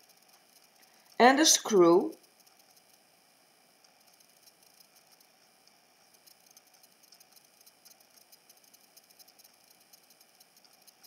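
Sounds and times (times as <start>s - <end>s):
faint rapid high-pitched clicking: 0.0s - 11.0s.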